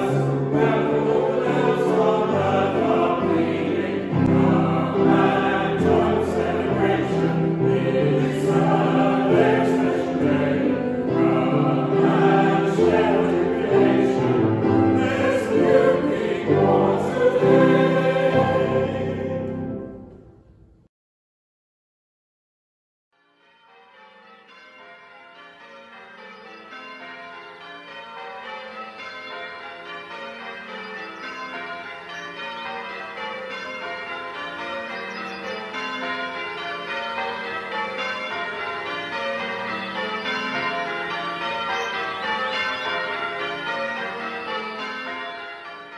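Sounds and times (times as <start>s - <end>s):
church bells ringing: 0.0s - 20.2s, 23.2s - 45.9s.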